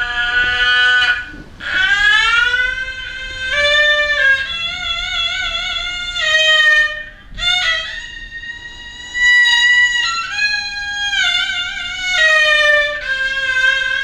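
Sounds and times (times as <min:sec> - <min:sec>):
bowed fiddle sliding notes: 0:00.0 - 0:14.0.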